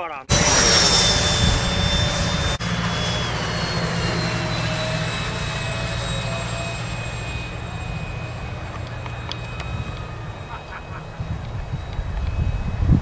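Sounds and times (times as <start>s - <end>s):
model jet fan whining overhead: 0.3s - 13.0s.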